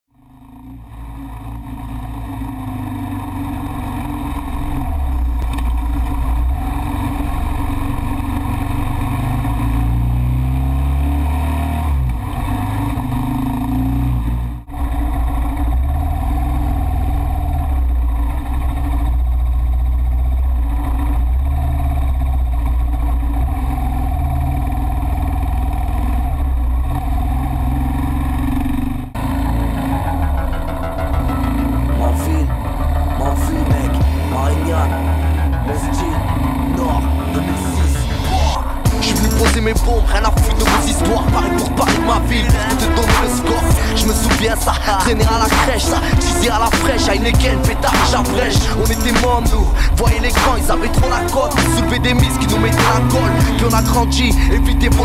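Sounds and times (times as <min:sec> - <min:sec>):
motorcycle engine running: 0:00.1 - 0:55.0.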